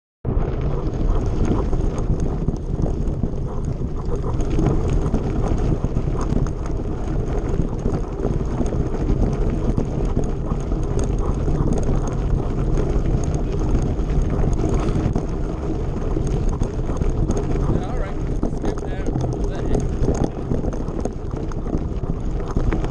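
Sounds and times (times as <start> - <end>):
wind buffeting microphone: 0.2 - 22.9
bike rattling and clicking: 0.3 - 22.9
bike tyres on gravel: 0.3 - 22.9.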